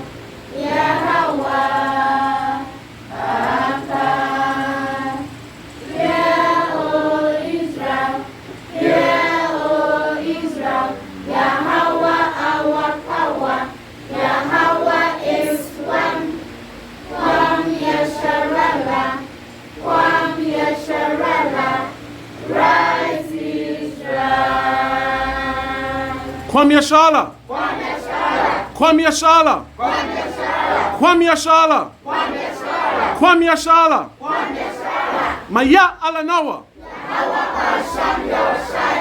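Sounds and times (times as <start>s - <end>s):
choir singing: 0.0s - 39.0s.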